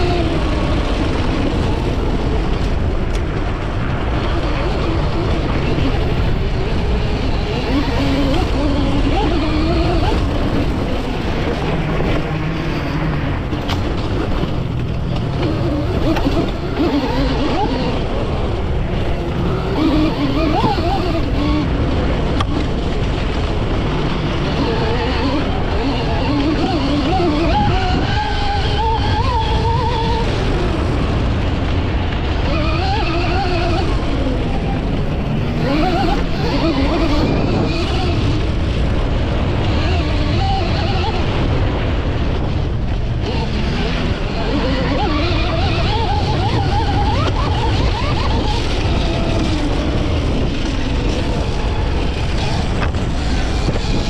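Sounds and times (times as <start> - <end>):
chassis and chain rattling: 0.0 - 54.0
electric motor whine: 0.0 - 54.0
low rumble: 0.0 - 54.0
wind: 0.0 - 54.0.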